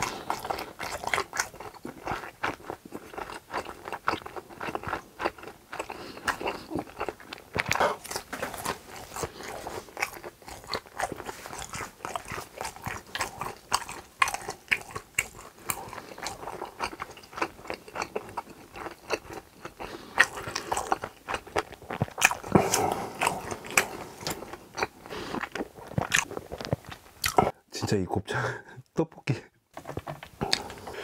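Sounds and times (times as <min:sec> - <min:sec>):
close chewing with wet mouth clicks: 0:00.0 - 0:27.6.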